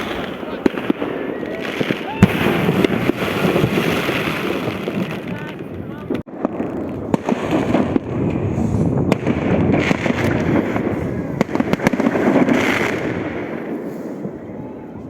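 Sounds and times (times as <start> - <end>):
firework bangs: 0.0 - 15.0
firework crackle: 0.0 - 15.0.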